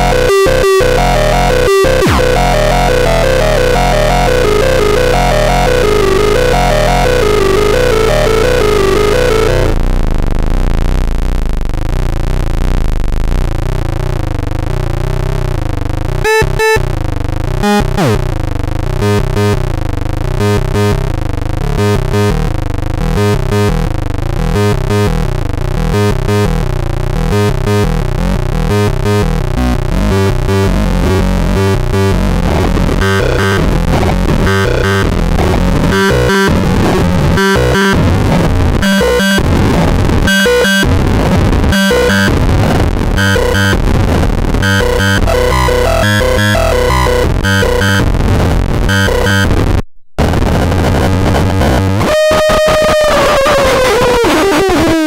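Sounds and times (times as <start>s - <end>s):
harsh electronic noise sequencer: 0.0s - 55.0s.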